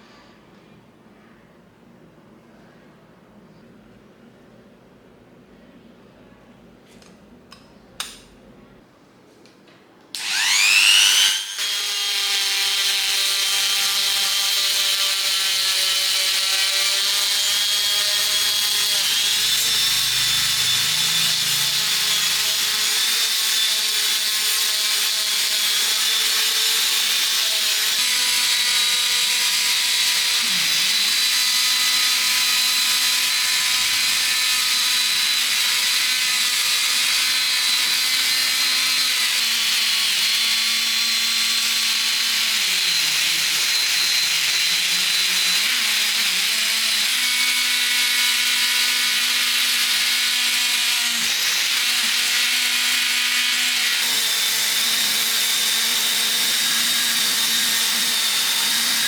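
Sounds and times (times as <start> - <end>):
electric power tool whine: 10.2 - 59.0.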